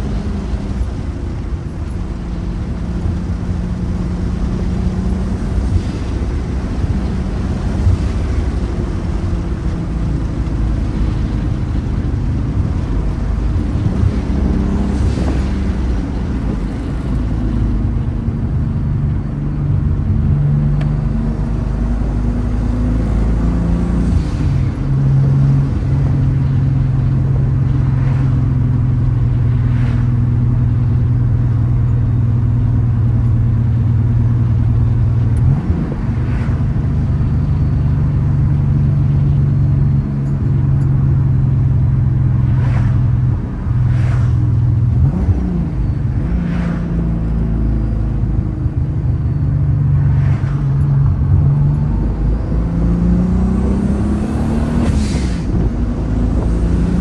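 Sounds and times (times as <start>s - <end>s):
car engine and exhaust droning: 0.0s - 57.0s.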